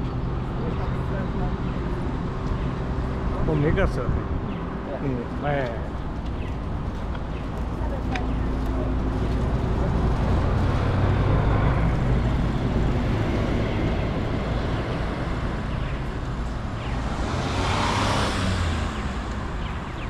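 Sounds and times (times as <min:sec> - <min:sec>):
coach engine humming past: 0:00.0 - 0:20.0
van passing with road noise: 0:00.0 - 0:20.0.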